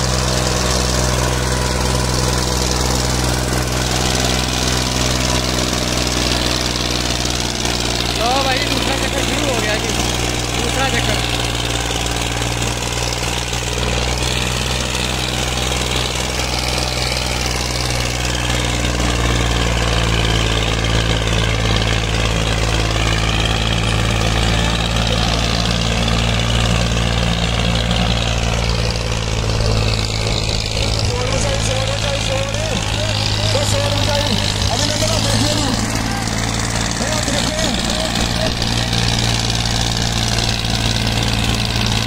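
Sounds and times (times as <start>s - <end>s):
tractor diesel engine under load: 0.0s - 42.0s.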